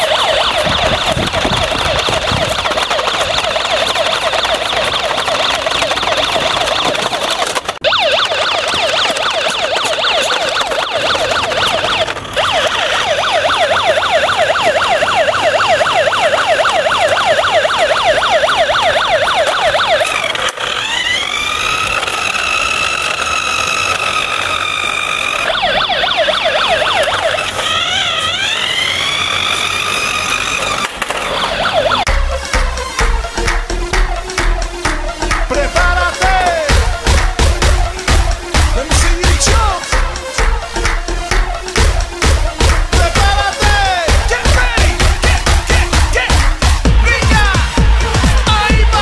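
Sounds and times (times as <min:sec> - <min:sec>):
electronic police siren: 0:00.0 - 0:49.0.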